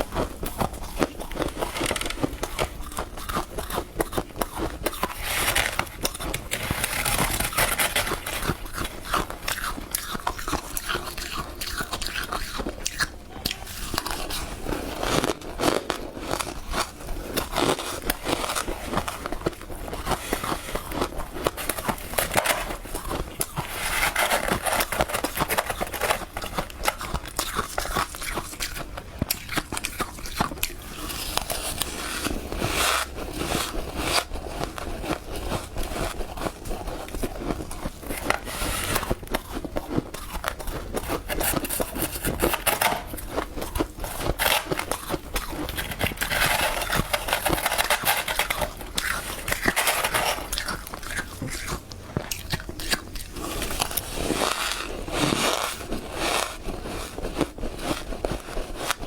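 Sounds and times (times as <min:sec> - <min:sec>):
crunching and chewing frost: 0:00.0 - 0:59.0.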